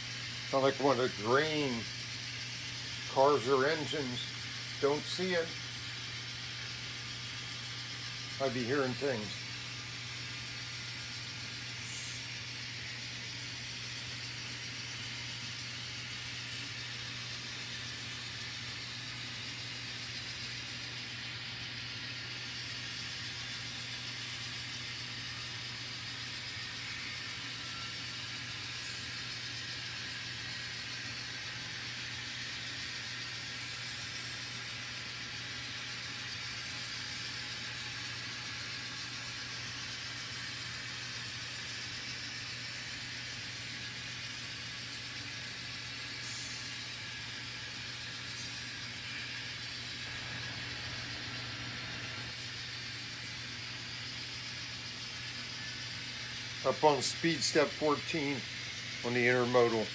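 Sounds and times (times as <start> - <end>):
model train diesel engine sound: 0.0 - 59.9.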